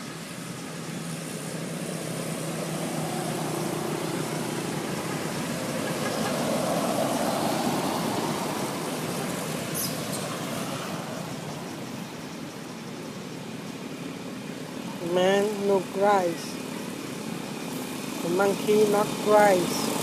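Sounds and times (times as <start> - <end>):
road noise: 0.0 - 20.0
vehicle engine hum: 0.0 - 20.0.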